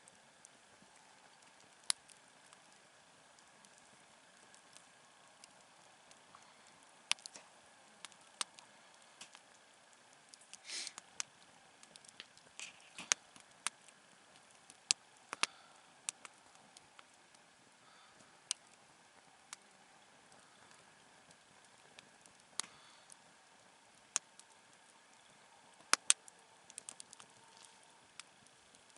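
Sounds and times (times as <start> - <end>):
campfire crackling: 0.0 - 28.9
fire hissing: 0.0 - 28.9.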